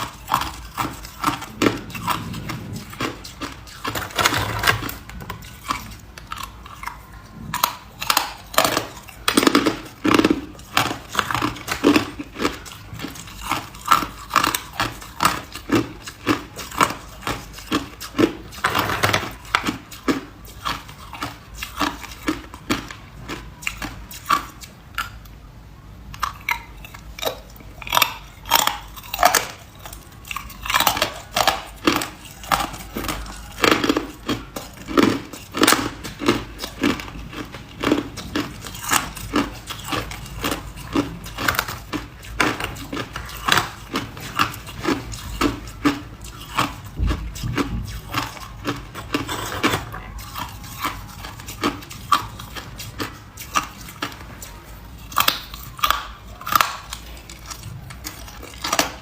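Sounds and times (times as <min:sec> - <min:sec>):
ice crunching between teeth: 0:00.0 - 0:25.1, 0:26.2 - 0:59.0.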